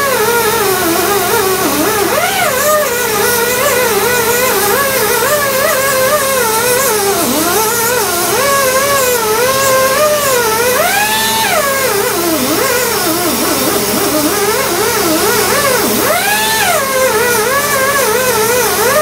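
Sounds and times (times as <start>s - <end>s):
die grinder whining on metal: 0.0s - 19.0s.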